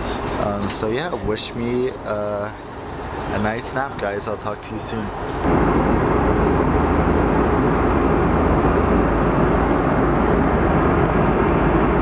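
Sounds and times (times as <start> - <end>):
airplane cabin noise: 0.0 - 12.0.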